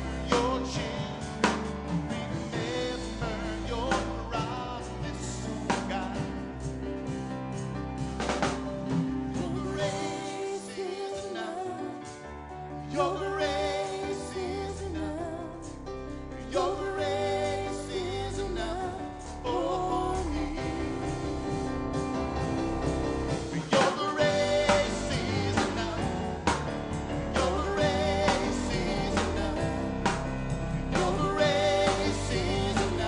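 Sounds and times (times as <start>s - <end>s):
voices singing: 0.0s - 6.7s, 9.2s - 12.2s, 12.8s - 21.8s, 23.3s - 33.0s
worship band playing slow song: 0.0s - 33.0s.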